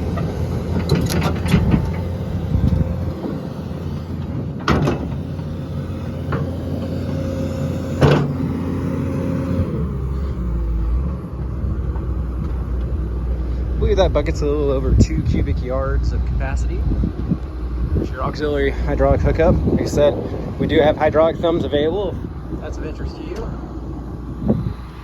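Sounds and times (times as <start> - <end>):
excavator diesel engine under load: 0.0 - 25.0
hydraulic whine: 0.0 - 25.0.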